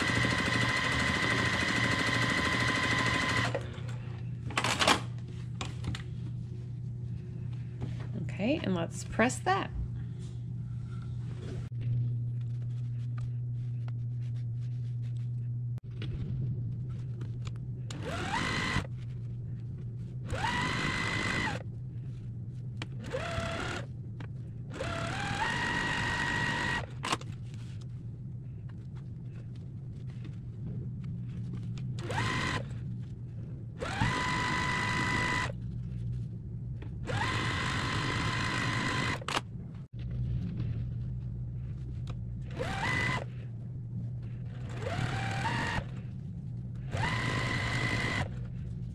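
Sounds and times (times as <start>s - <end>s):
low hum: 3.4s - 25.2s, 26.0s - 37.8s, 38.4s - 48.9s.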